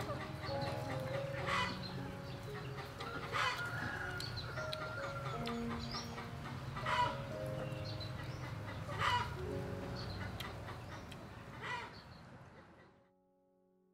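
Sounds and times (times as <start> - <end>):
background music with held notes: 0.0 - 11.8
chickens clucking and calling: 0.0 - 12.9.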